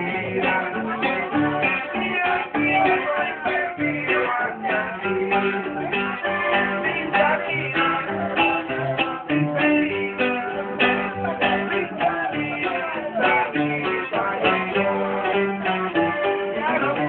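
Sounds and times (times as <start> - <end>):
accordion melody: 0.0 - 17.0
guitar plucked accompaniment: 0.0 - 17.0.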